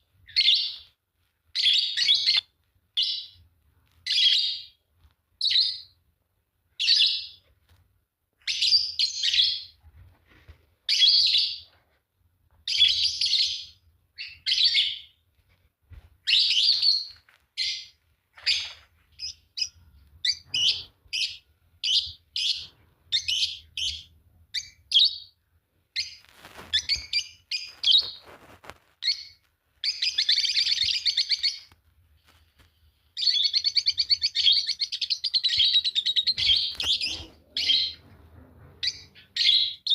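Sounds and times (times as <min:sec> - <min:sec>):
lovebirds chirping: 0:00.0 - 0:06.0, 0:06.7 - 0:07.6, 0:08.4 - 0:09.8, 0:10.8 - 0:11.8, 0:12.6 - 0:15.5, 0:16.2 - 0:38.1, 0:38.7 - 0:39.9.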